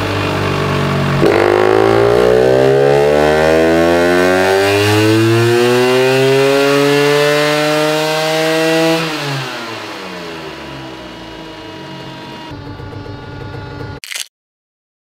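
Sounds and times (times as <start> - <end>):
scooter engine revving on dyno: 0.0 - 14.0.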